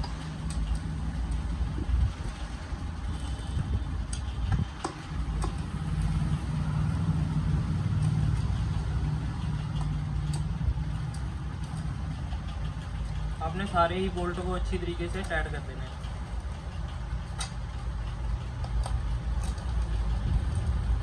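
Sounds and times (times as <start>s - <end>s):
motor idling hum: 0.0s - 21.0s.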